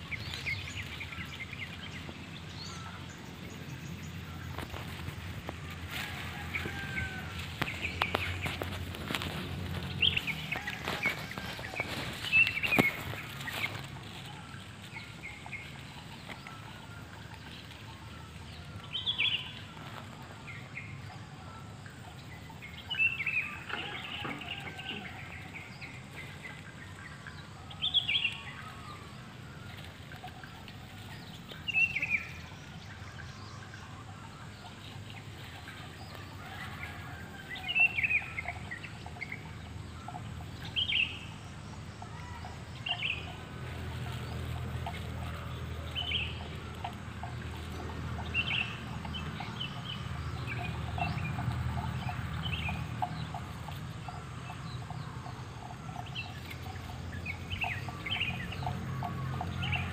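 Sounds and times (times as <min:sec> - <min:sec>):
bird calls: 0:00.0 - 0:36.9, 0:37.5 - 0:59.9.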